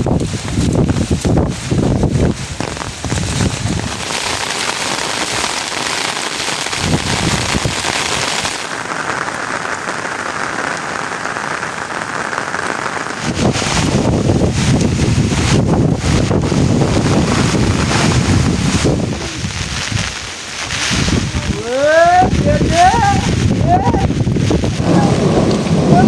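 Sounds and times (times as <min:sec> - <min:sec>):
rain pattering on surfaces: 0:00.0 - 0:26.0.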